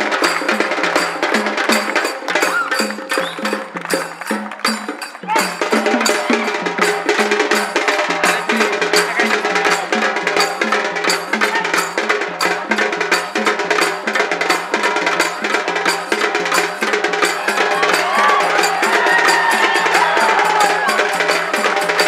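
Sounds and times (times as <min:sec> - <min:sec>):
drums beating fast rhythm: 0:00.0 - 0:22.0
hand cymbals clashing: 0:00.0 - 0:22.0.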